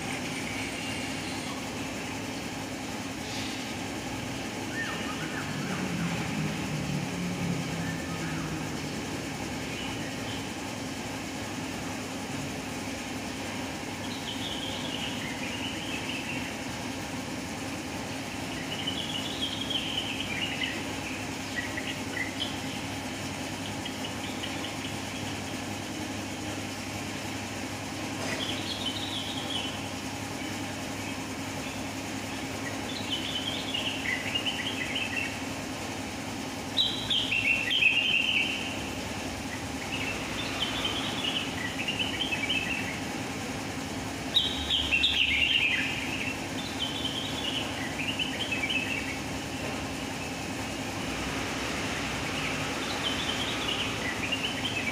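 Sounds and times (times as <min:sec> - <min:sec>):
low mechanical hum: 0:00.0 - 0:54.9.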